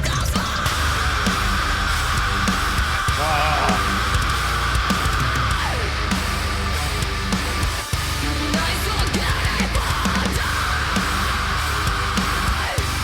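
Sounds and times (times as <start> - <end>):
bass: 0.0 - 13.0
distorted electric guitar: 0.0 - 13.0
heavy metal song: 0.0 - 13.0.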